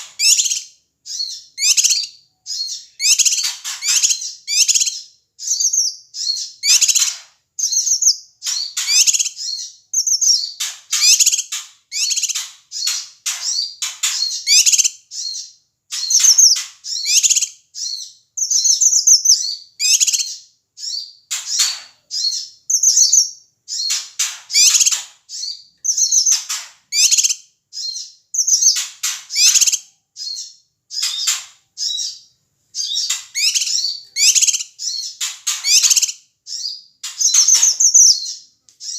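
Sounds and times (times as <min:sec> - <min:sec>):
bird calling agitatedly: 0:00.0 - 0:21.6, 0:22.2 - 0:32.2, 0:32.8 - 0:38.9.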